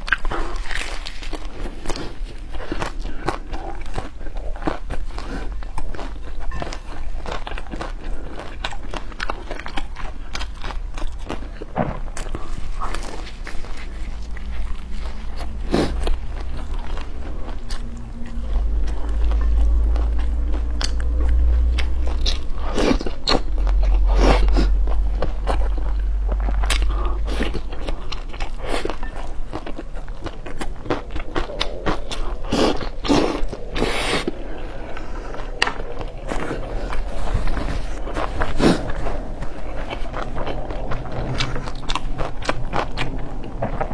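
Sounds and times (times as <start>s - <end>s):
person chewing crunchily: 0.0s - 43.9s
low rumble: 5.1s - 43.9s.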